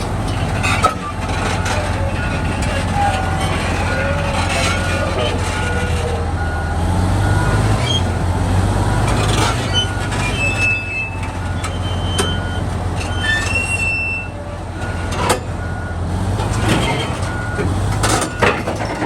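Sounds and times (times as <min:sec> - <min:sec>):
bulldozer diesel engine running: 0:00.0 - 0:19.0
steel tracks squealing and creaking: 0:00.0 - 0:19.0.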